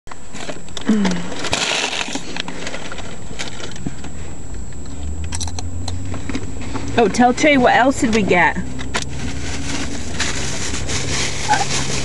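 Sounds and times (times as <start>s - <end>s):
low steady car hum: 0.1s - 12.0s.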